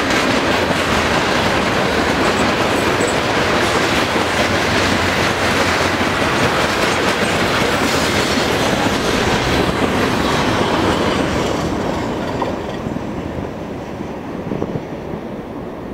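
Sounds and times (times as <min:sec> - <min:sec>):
steel wheels rolling on rails: 0:00.0 - 0:13.8.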